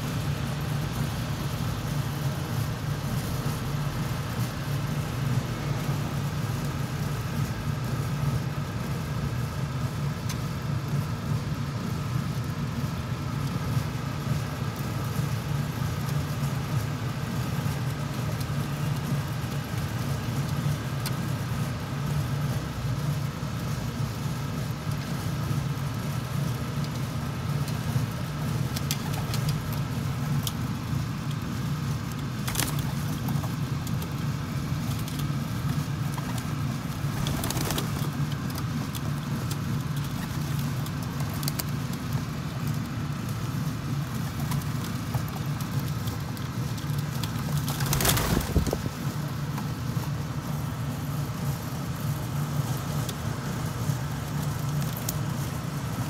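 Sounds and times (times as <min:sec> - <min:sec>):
hvac unit humming: 0:00.0 - 0:56.0.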